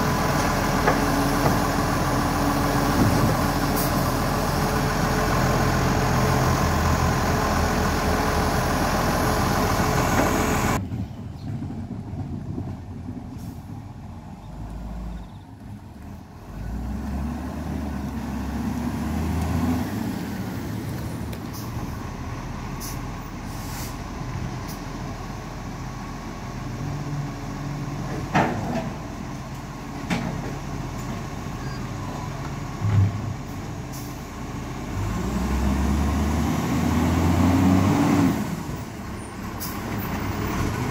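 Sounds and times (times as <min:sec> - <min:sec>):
garbage truck diesel engine: 0:00.0 - 0:40.9.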